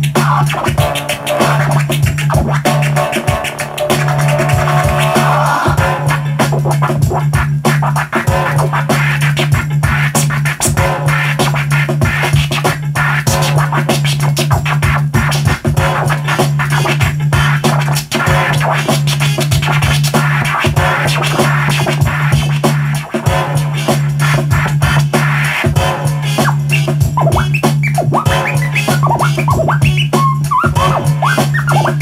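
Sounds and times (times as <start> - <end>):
vinyl record scratching: 0.0 - 32.0.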